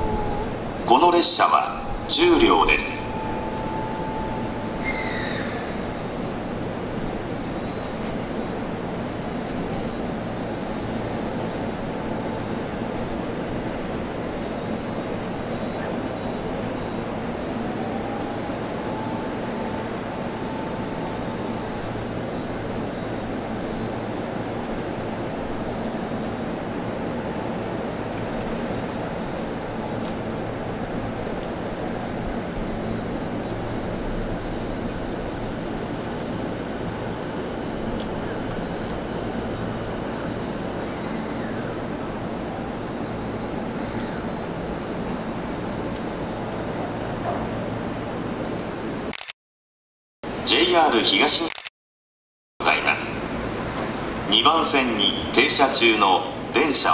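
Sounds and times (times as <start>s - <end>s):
electric whine: 0.0s - 46.8s
train pulling in: 0.0s - 49.1s, 52.6s - 56.9s
train rumble and hum: 0.0s - 49.1s, 52.6s - 56.9s.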